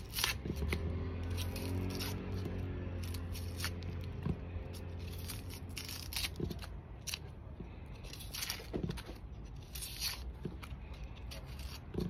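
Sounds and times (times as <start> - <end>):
knife scraping onion skin: 0.0 - 12.0.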